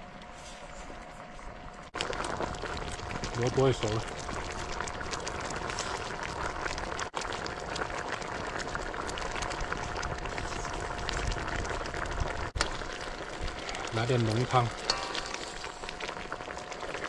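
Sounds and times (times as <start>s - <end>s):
stew bubbling in pot: 0.0s - 17.0s.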